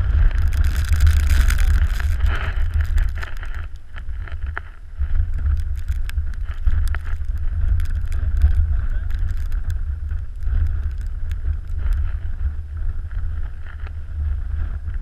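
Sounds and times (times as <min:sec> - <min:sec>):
faint clicks: 0:00.0 - 0:12.5
wind buffeting microphone: 0:00.0 - 0:15.0.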